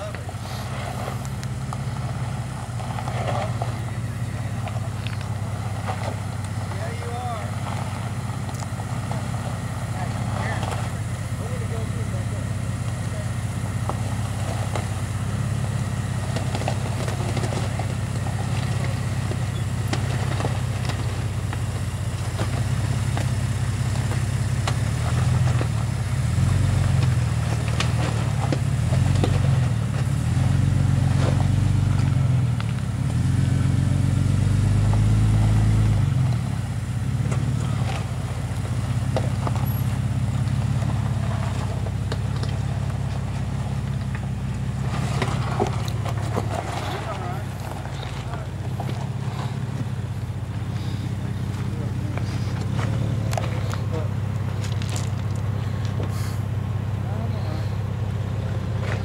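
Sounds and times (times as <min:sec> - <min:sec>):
engine revving under load: 0:00.0 - 0:59.0
loose rock crunching under tyres: 0:00.0 - 0:59.0.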